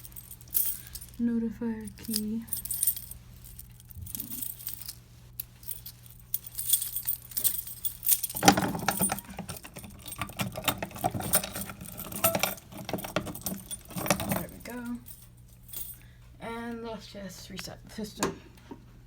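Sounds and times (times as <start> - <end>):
keys jangling: 0.0 - 1.2, 1.8 - 16.0.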